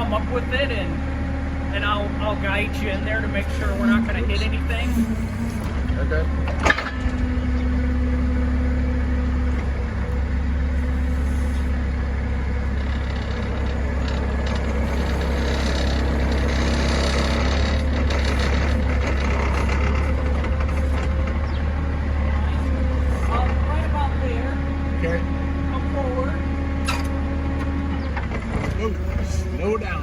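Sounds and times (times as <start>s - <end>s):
forklift engine humming: 0.0s - 30.0s.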